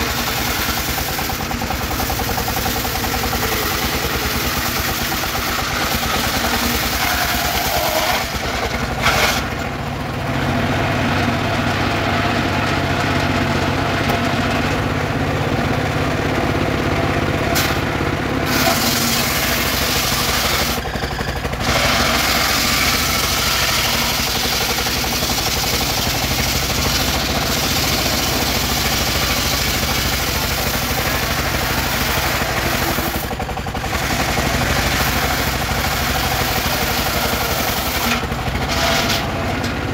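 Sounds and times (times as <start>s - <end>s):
saw blade cutting log: 0.0s - 9.9s, 17.5s - 39.9s
sawmill engine running: 0.0s - 39.9s.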